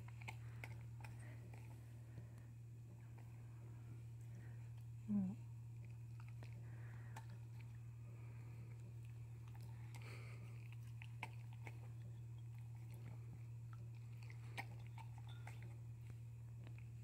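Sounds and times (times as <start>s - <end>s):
dog chewing wet food: 0.0s - 4.9s, 5.7s - 17.0s
low hum: 0.0s - 17.0s.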